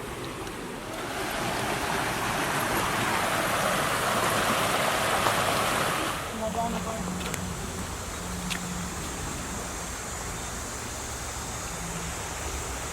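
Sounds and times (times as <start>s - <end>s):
rushing running water: 0.0s - 12.9s.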